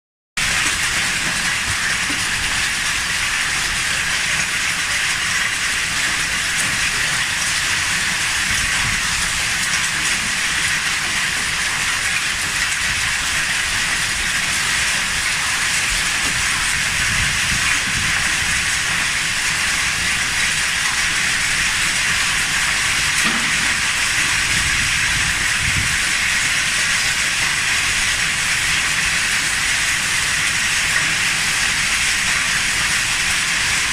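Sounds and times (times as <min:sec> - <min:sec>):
hail and rain pelting down: 0:00.4 - 0:33.9.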